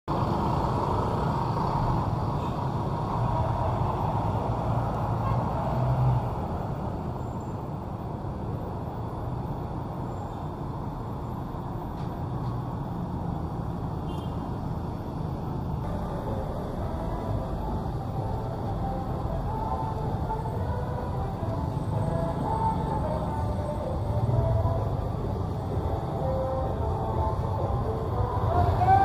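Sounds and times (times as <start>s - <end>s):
cars and motorbikes passing: 0.1s - 29.0s.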